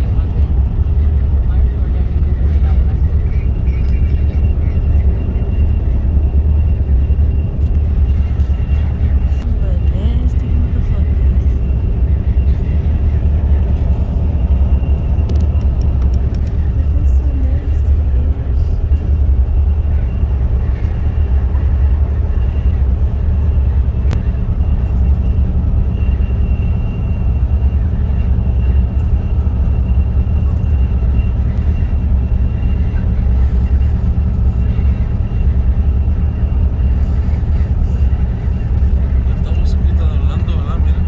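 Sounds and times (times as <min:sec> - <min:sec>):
vehicle rumble from inside: 0:00.0 - 0:41.0.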